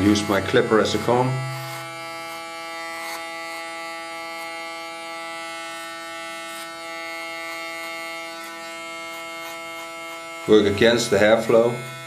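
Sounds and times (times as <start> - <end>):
electric hair clipper humming: 0.0 - 12.0.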